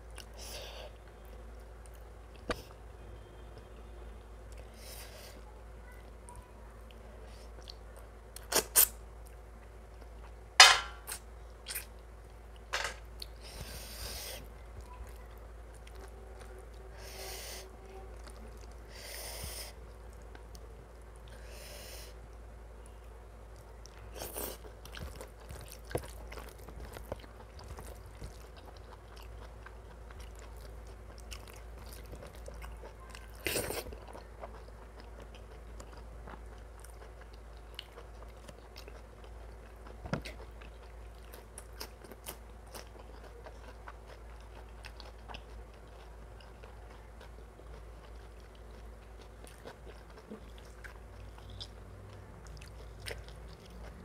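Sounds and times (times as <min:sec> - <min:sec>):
person chewing food: 0:00.0 - 0:02.8, 0:07.3 - 0:54.0.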